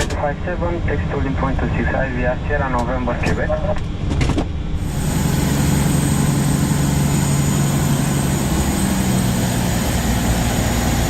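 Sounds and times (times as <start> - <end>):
aircraft hum and hiss: 0.0 - 11.0.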